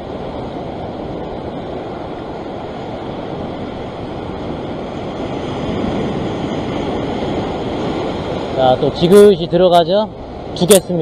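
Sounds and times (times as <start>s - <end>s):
surf washing over rocks: 0.0s - 11.0s.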